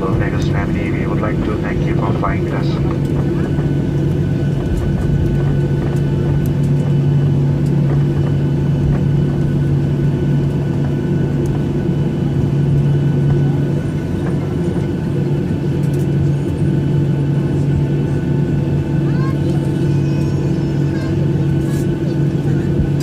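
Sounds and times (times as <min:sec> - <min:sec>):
airplane cabin hum: 0:00.0 - 0:23.0
faint steady whines: 0:00.0 - 0:23.0.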